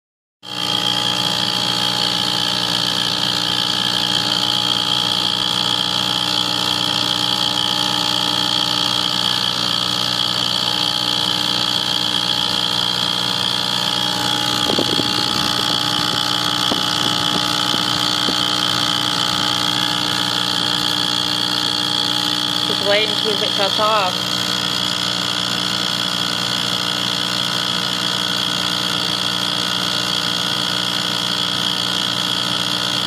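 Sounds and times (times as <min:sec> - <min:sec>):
high even whine: 0:00.5 - 0:28.0
furnace humming: 0:00.5 - 0:33.0.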